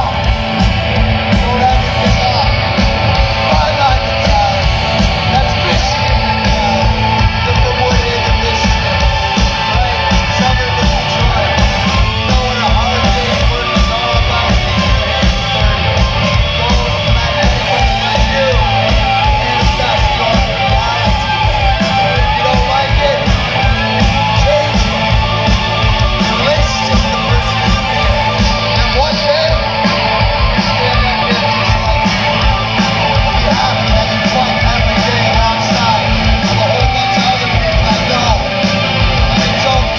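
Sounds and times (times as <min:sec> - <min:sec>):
hard rock band playing: 0:00.0 - 0:39.9.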